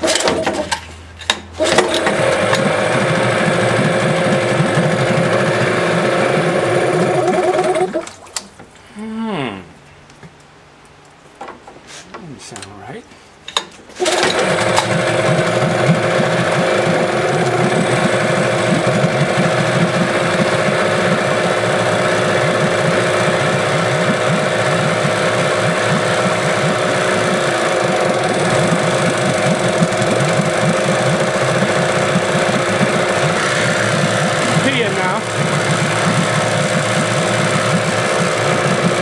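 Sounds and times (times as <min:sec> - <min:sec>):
outboard motor running: 0:01.6 - 0:08.2, 0:14.0 - 0:39.0.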